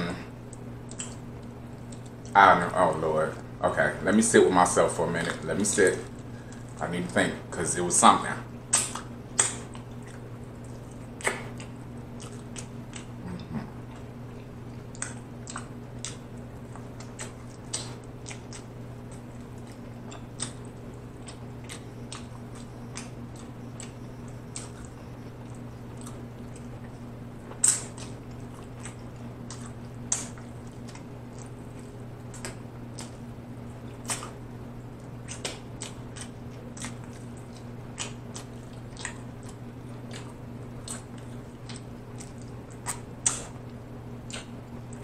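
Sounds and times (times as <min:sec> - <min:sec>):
steady low hum: 0:00.0 - 0:45.0
wet chewing smacks and clicks: 0:00.4 - 0:03.4, 0:08.7 - 0:45.0.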